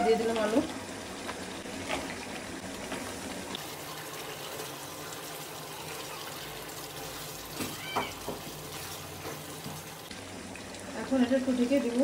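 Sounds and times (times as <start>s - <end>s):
curry simmering and sizzling: 0.0s - 12.0s.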